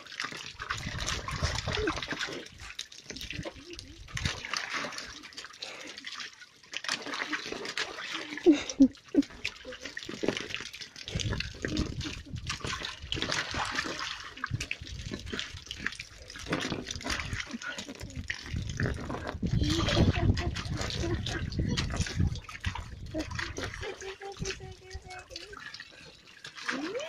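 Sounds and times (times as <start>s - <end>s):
dog splashing in water: 0.0s - 27.0s
hose water splattering into pool: 0.0s - 27.0s.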